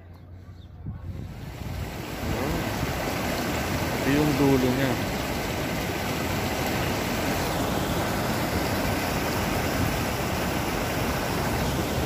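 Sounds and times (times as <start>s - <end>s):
water rushing over weir: 1.2s - 12.0s.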